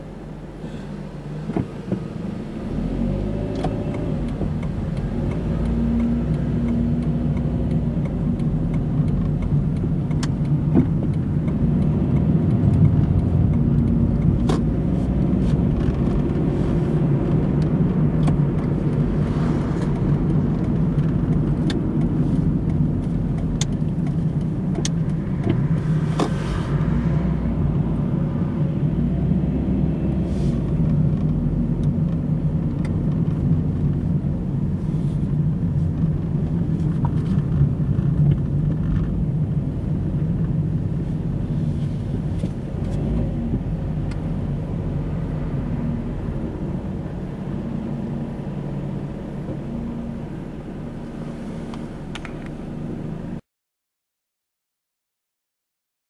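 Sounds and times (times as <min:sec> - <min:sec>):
car engine and road noise: 0:00.0 - 0:53.4.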